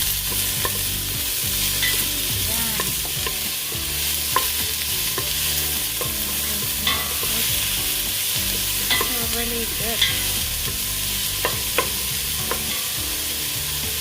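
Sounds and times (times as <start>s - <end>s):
onions sizzling in oil: 0.0s - 14.0s
utensil scraping pan: 0.0s - 14.0s.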